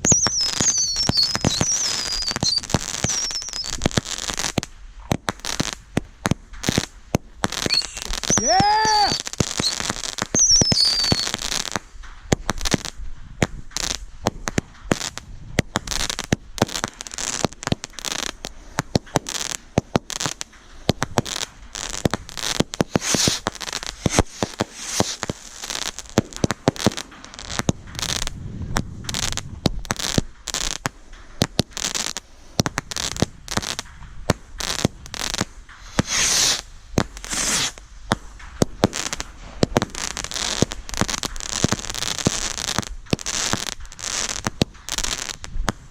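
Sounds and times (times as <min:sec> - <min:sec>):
fireworks bangs: 0:00.0 - 0:45.9
fireworks crackling hiss: 0:00.0 - 0:45.9.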